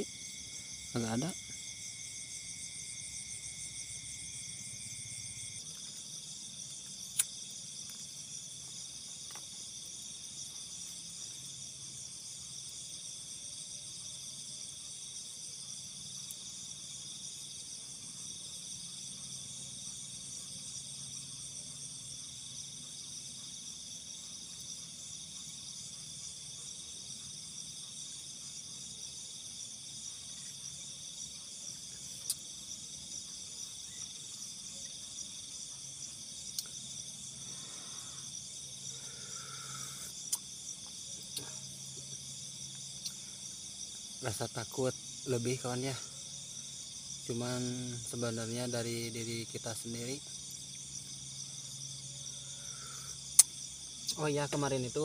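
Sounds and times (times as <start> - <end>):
crickets and insects trilling: 0.0 - 55.0.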